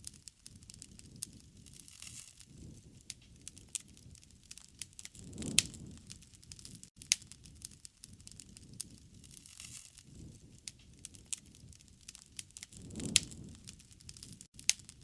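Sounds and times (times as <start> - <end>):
campfire crackling: 0.0 - 15.0
low rush of flame: 0.0 - 15.0.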